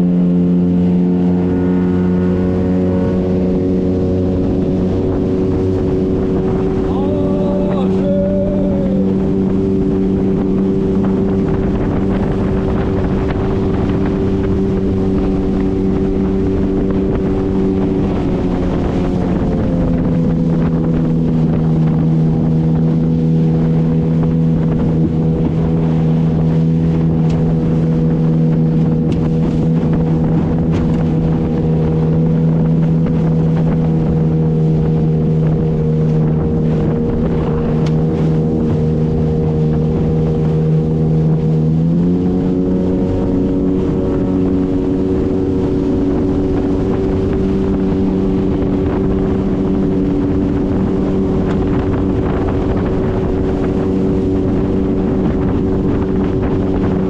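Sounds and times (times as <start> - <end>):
motorboat engine running: 0.0 - 57.0
rushing water: 0.0 - 57.0
wind on microphone: 0.0 - 57.0.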